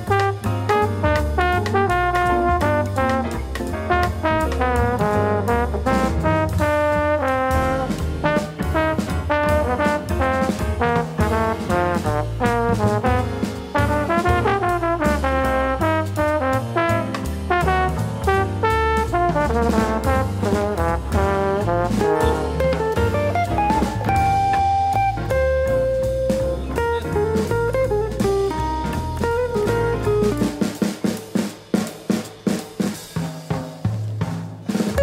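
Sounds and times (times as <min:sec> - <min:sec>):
walking bass: 0:00.0 - 0:31.0
drums: 0:00.0 - 0:35.0
lead instrument line: 0:00.8 - 0:30.7.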